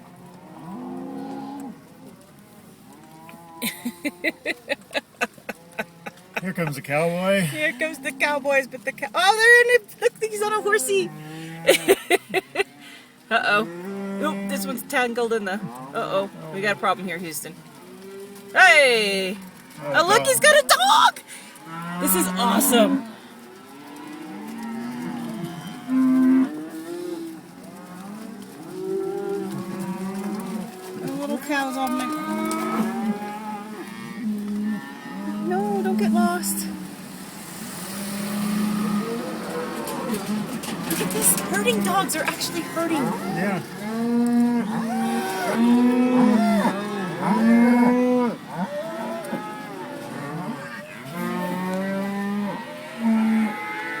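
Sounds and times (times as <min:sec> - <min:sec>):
cattle mooing: 0:02.9 - 0:09.6, 0:10.4 - 0:21.0, 0:21.6 - 0:54.0.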